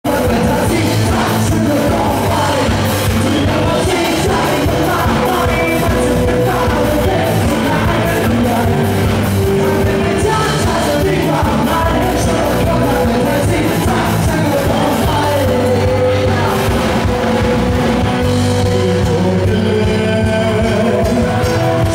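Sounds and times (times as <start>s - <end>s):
live rock band playing: 0.0s - 21.9s
man singing: 0.0s - 21.9s.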